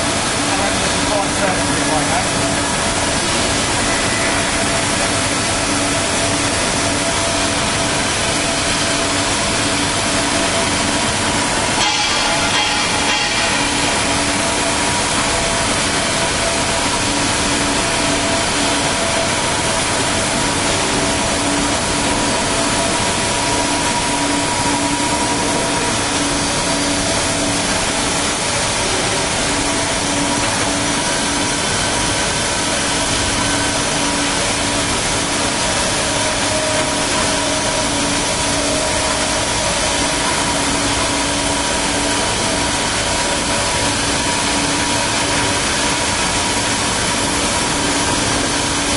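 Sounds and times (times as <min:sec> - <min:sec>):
machine hum and whine: 0:00.0 - 0:48.9.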